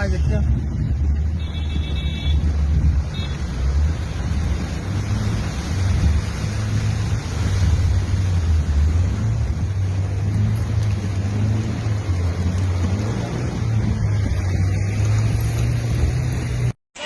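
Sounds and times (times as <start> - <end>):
wind buffeting microphone: 0.0 - 16.7.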